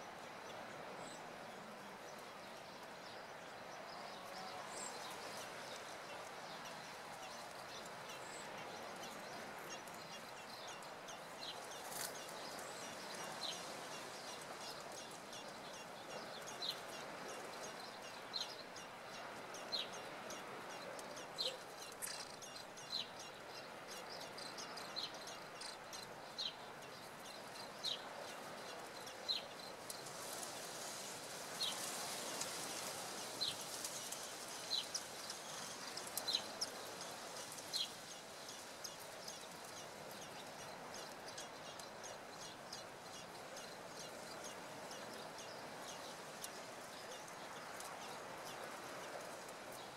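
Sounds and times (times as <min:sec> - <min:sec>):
faint steady hiss: 0:00.0 - 0:49.9.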